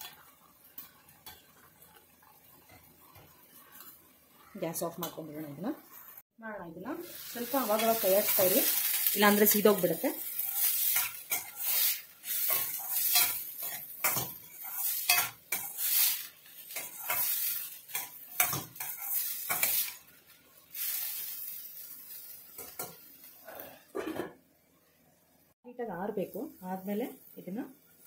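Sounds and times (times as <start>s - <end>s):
vegetables sizzling: 0.0s - 23.9s.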